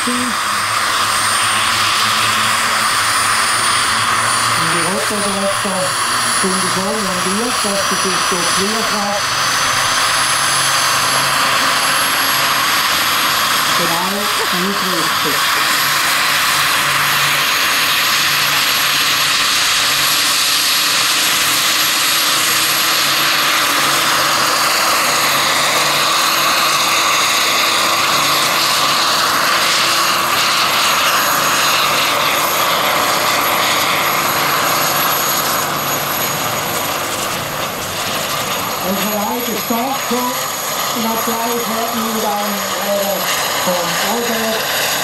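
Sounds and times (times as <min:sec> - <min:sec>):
high turbine whine: 0:00.0 - 0:45.0
rushing rotor noise: 0:00.0 - 0:45.0.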